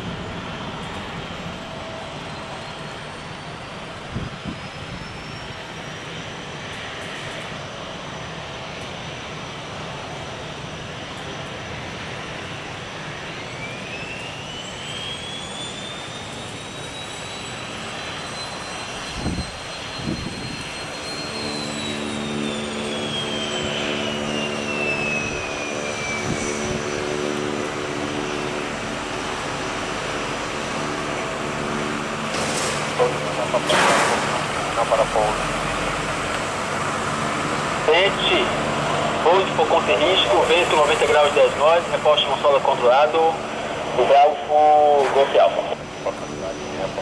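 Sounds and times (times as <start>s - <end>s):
jet engines rumbling and whining: 0.0s - 47.0s.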